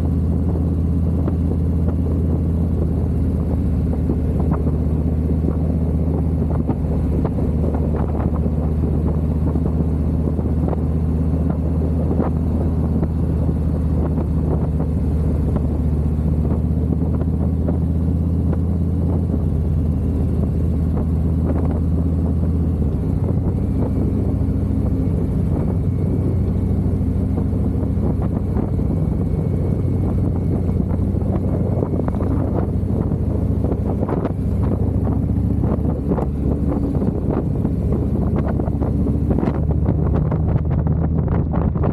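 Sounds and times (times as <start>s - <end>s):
motorcycle engine running: 0.0s - 41.9s
road and wind noise: 0.0s - 41.9s.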